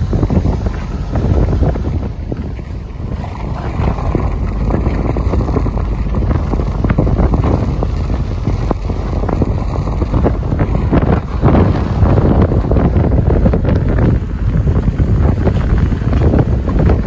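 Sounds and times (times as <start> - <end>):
stones crackling under tyres: 0.0 - 17.0
tyre and road rumble: 0.0 - 17.0
wind buffeting microphone: 0.0 - 17.0.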